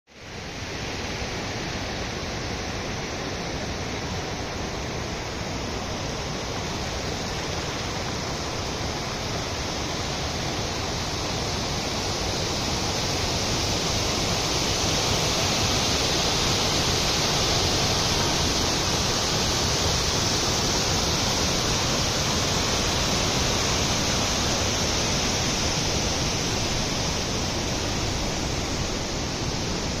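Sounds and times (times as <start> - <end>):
falling water rushing: 0.2 - 30.0.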